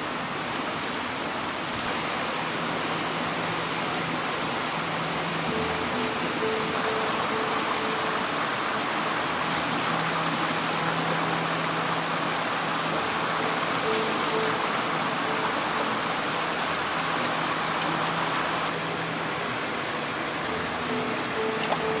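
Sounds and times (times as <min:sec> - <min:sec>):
stream rushing: 0:00.0 - 0:22.0
faint background music: 0:02.3 - 0:22.0.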